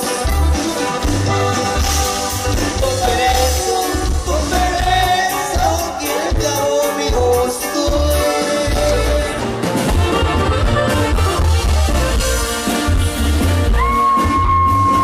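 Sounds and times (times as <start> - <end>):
accordion melody: 0.0 - 15.0
live band playing: 0.0 - 15.0.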